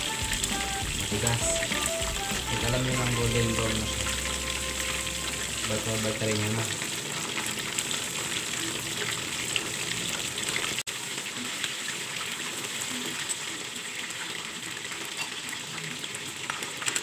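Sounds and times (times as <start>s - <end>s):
chicken wings sizzling in oil: 0.0s - 17.0s.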